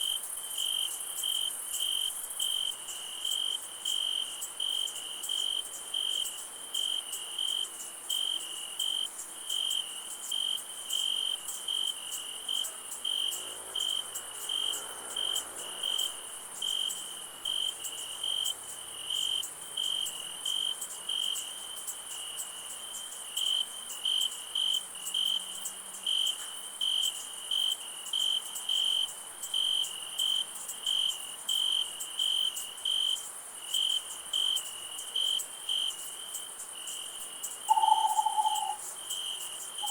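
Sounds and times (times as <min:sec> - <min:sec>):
crickets chirping: 0:00.0 - 0:39.9
high insect trill: 0:00.0 - 0:39.9.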